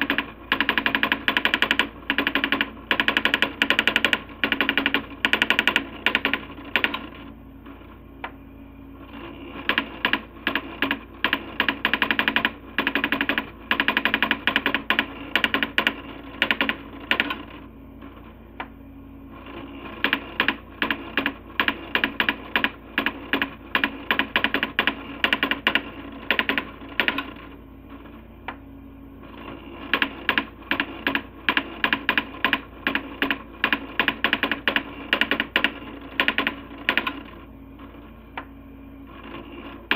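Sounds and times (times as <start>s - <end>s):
printer steady hum: 0.0s - 39.9s.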